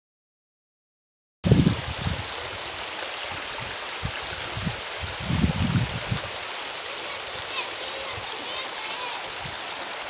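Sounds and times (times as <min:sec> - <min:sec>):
creek rippling over stones: 0:01.5 - 0:10.0.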